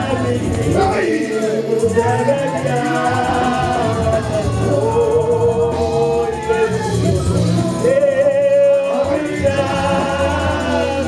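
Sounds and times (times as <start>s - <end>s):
congregation singing gospel chorus: 0.0s - 11.0s
low bass line: 0.0s - 11.0s.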